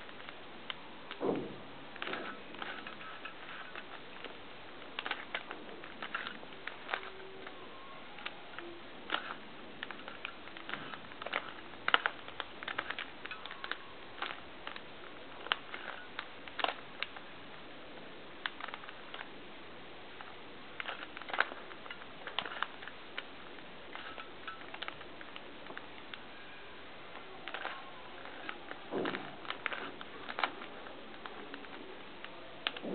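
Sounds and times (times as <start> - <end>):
puzzle cube clicking: 1.9 - 26.3, 27.1 - 32.9.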